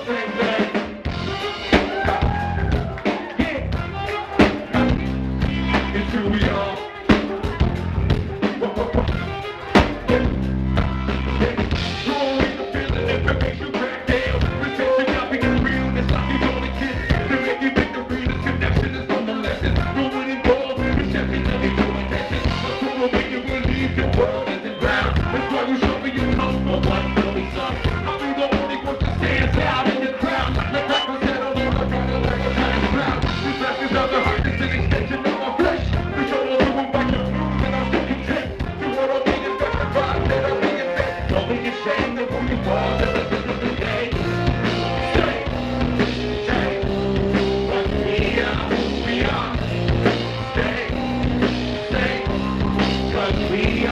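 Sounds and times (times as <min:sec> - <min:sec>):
drum kit steady beat: 0:00.0 - 0:53.9
guitar: 0:00.0 - 0:53.9
heavy bass line: 0:00.0 - 0:53.9
live rock band playing: 0:00.0 - 0:53.9.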